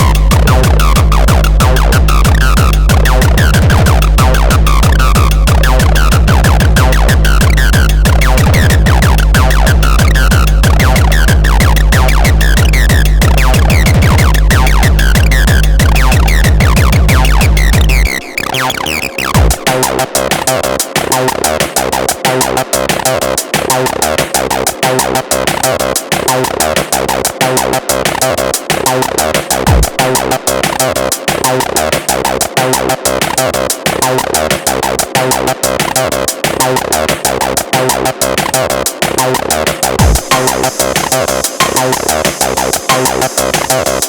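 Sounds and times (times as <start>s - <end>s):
distorted kick drum: 0.0s - 44.0s
squelchy acid bassline: 0.0s - 44.0s.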